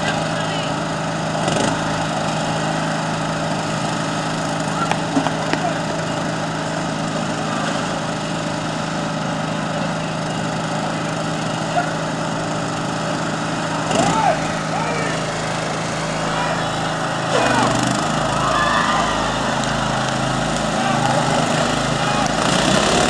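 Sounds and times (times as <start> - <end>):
lawn mower engines racing: 0.0 - 23.0.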